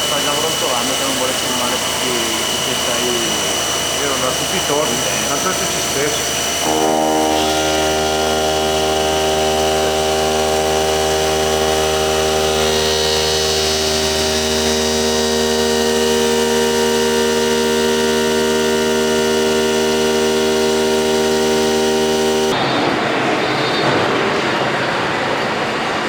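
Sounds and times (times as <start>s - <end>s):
machining center running: 0.0s - 26.0s.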